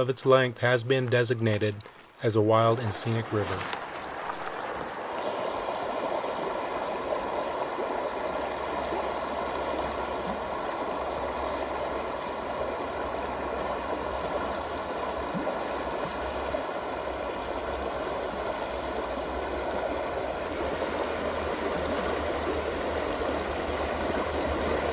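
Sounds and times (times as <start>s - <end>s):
river water rushing: 1.4s - 14.7s, 16.3s - 24.9s.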